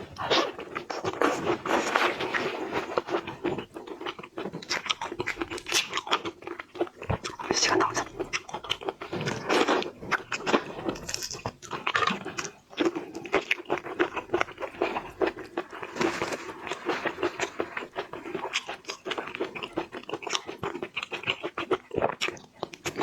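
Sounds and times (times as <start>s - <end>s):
crunching and wet chewing: 0.0s - 23.0s.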